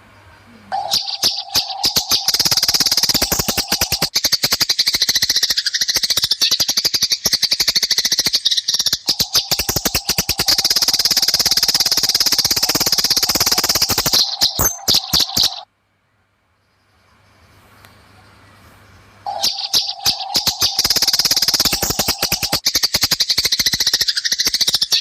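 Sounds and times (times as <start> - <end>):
sparrows chattering: 0.0 - 15.7, 16.8 - 25.0.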